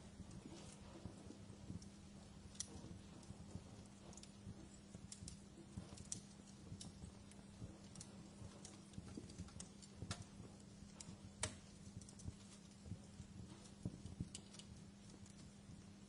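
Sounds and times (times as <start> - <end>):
sharp pops of fire: 0.0 - 15.8
steady low hum: 0.0 - 16.0
wood fire crackling: 0.0 - 16.0.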